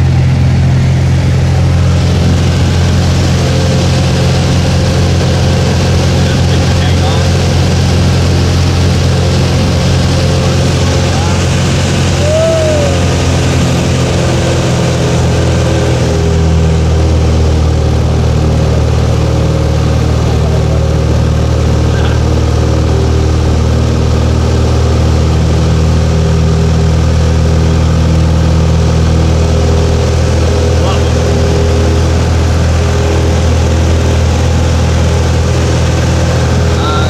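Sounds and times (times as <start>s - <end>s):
propeller aircraft engine drone: 0.0s - 37.0s.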